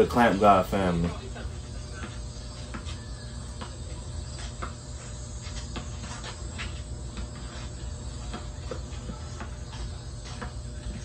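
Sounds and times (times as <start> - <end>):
basketball dribbled on asphalt: 1.8 - 11.0.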